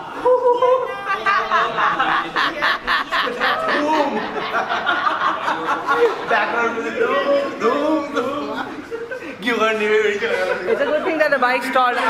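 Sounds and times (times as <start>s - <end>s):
people laughing: 0.0s - 11.4s
people chattering: 0.0s - 12.0s.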